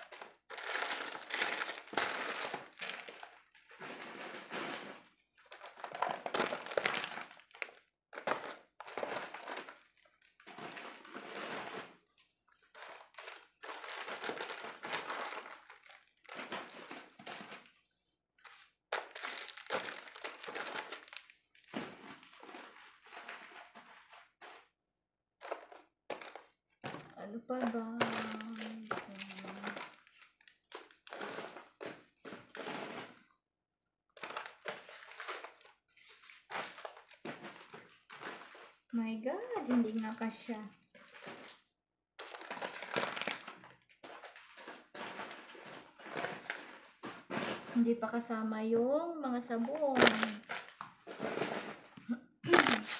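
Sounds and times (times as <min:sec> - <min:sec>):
plastic packaging crinkling: 0:00.0 - 0:17.8, 0:18.4 - 0:24.6, 0:25.4 - 0:33.2, 0:34.2 - 0:38.8, 0:39.4 - 0:48.0, 0:49.6 - 0:52.9.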